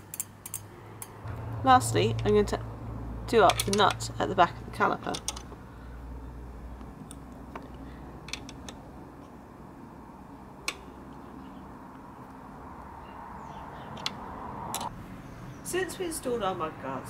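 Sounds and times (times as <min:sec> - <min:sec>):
steady low hum: 0:00.5 - 0:15.4.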